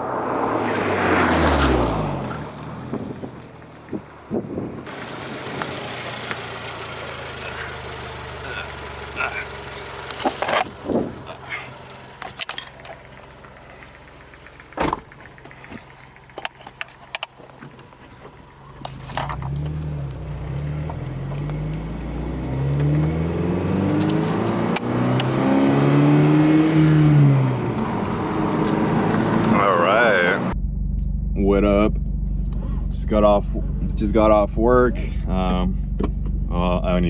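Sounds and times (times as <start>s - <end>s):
car engine: 0.0s - 37.0s.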